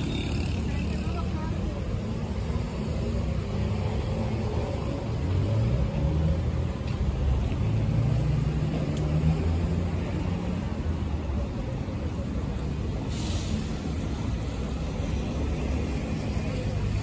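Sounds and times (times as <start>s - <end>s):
street ambience: 0.0s - 17.0s
traffic engine rumble: 0.0s - 17.0s.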